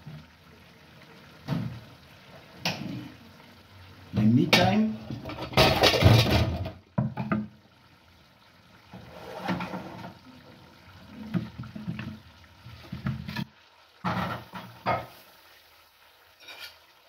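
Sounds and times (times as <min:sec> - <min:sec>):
liquid pouring and splashing: 0:00.0 - 0:07.6, 0:08.6 - 0:17.0.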